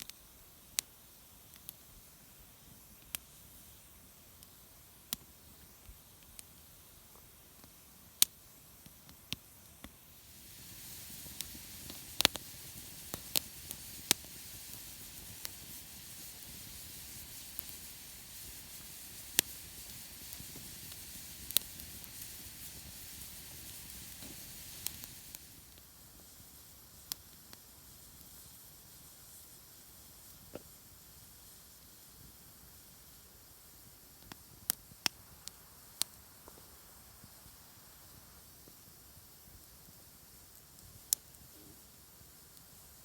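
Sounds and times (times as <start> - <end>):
campfire wood crackling: 0.0 - 43.0
steady high hiss: 0.0 - 43.0.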